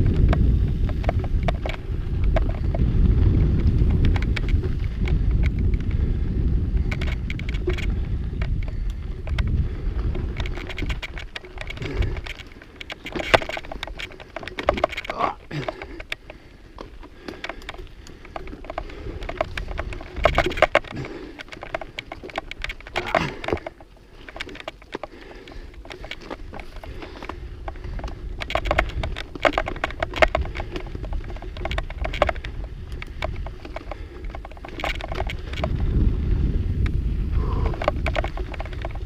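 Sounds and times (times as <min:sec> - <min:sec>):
bike rattling on rough trail: 0:00.0 - 0:39.0.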